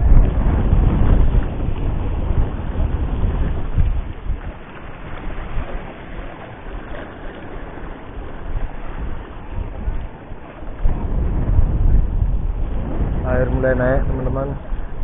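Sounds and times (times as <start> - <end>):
small waves washing against rocks: 0.0 - 15.0
wind buffeting microphone: 0.0 - 15.0.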